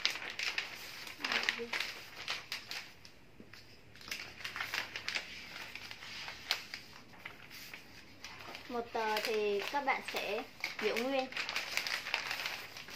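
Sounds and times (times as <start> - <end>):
wrapping paper rustling and crinkling: 0.0 - 12.9.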